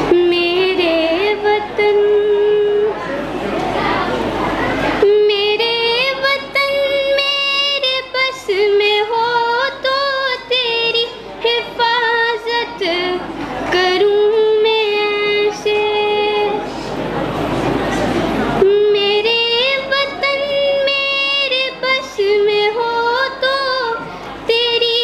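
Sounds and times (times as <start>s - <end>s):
girl singing into microphone: 0.0s - 3.1s, 4.9s - 16.8s, 18.6s - 25.0s.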